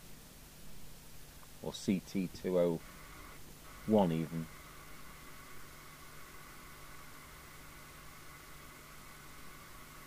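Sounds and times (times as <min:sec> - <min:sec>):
constant low hum: 0:00.0 - 0:10.0
faint steady hiss: 0:00.0 - 0:10.0.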